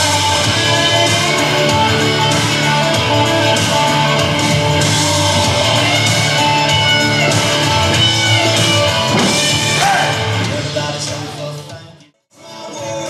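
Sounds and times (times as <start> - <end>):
country-rock instrumental with guitar: 0.0 - 11.8.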